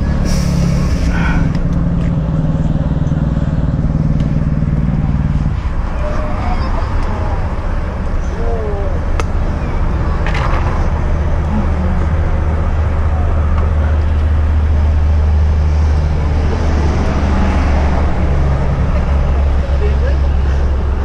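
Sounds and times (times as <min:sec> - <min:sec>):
motorcycle engine rumble: 0:00.0 - 0:21.0.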